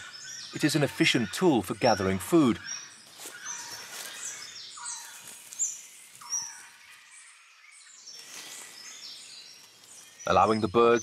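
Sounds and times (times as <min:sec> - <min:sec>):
birds chirping and whistling: 0:00.0 - 0:11.0
faint forest background hiss: 0:00.0 - 0:11.0.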